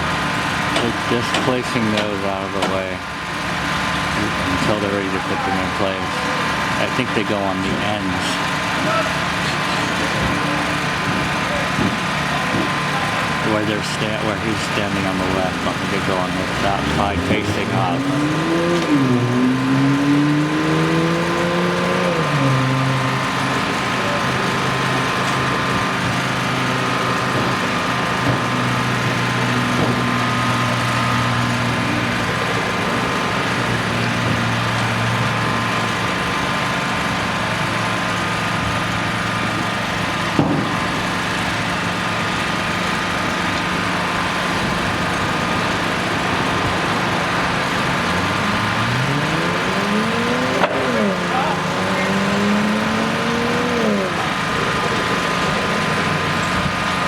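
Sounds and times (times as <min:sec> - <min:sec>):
vehicle engine idling: 0:00.0 - 0:57.0
vehicle speeding up: 0:03.5 - 0:39.8, 0:40.7 - 0:57.0.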